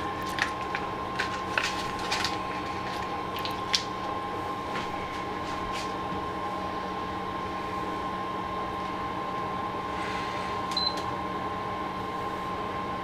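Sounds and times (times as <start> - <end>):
induction hob humming and whining: 0.0 - 13.0.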